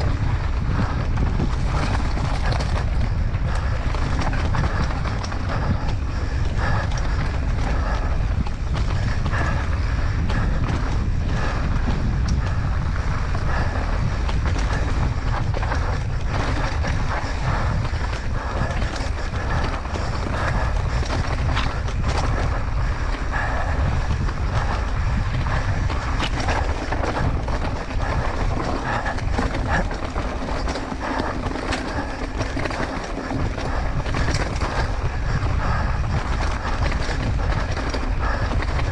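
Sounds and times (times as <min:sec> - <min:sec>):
bike chain and frame rattling: 0:00.0 - 0:38.8
wind buffeting microphone: 0:00.0 - 0:38.9.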